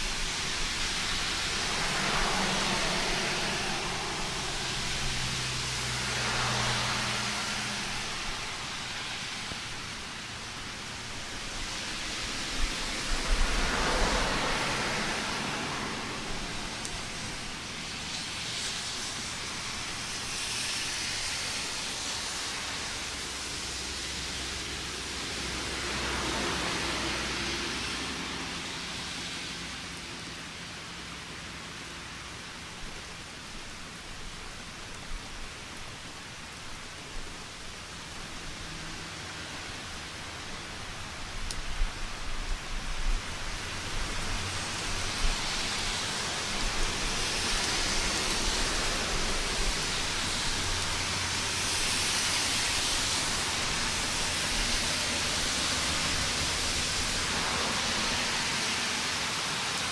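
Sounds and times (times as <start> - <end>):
sharp rain splashes: 0.0 - 59.9
steady rain hiss: 0.0 - 59.9.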